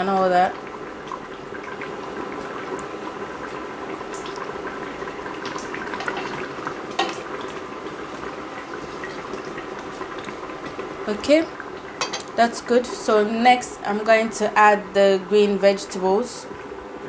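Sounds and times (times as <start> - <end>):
sauce bubbling in a pot: 0.0 - 17.0.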